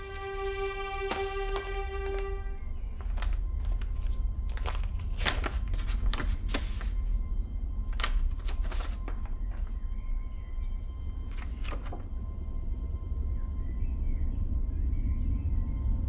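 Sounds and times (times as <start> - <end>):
faint music: 0.0 - 16.0.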